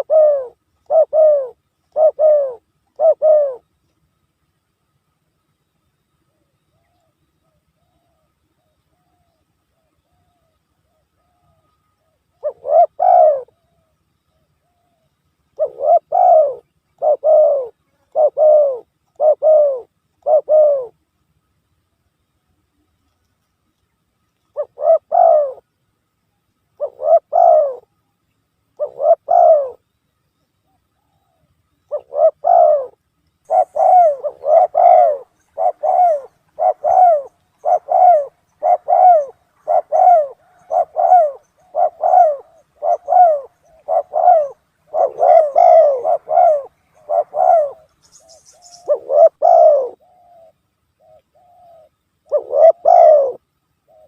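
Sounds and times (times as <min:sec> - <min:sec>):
dove cooing: 0:00.0 - 0:03.7, 0:06.3 - 0:21.0, 0:24.5 - 0:25.7, 0:26.8 - 0:28.0, 0:28.8 - 0:29.8, 0:30.6 - 0:54.0.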